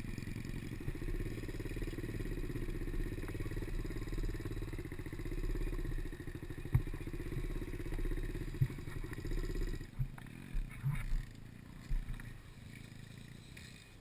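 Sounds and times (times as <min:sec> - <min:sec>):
pit bike engine running: 0:00.0 - 0:14.0.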